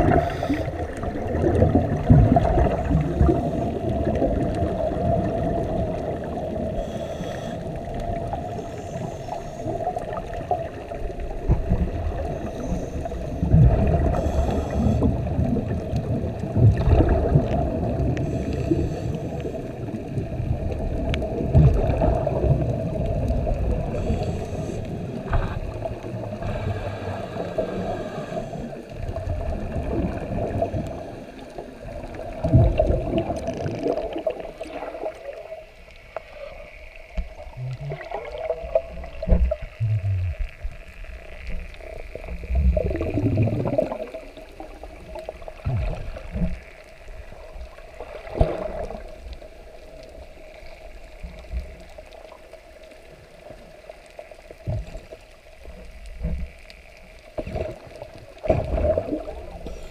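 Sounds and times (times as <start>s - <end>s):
surges of moving water: 0.0s - 59.9s
underwater hum: 0.0s - 59.9s.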